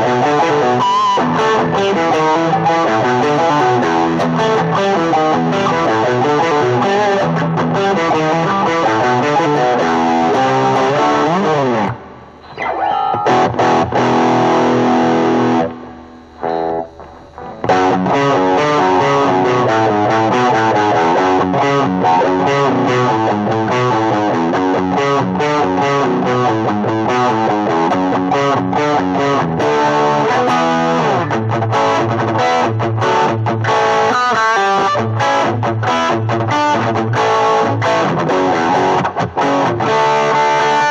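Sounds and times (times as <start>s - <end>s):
electric guitar playing quick runs: 0.0s - 40.9s.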